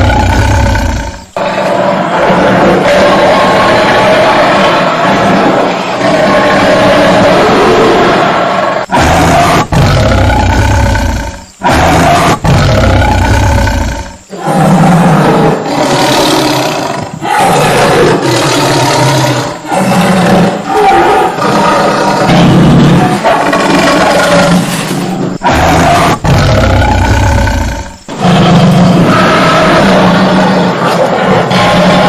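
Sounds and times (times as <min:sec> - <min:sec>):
tiger roaring: 0:00.0 - 0:32.0.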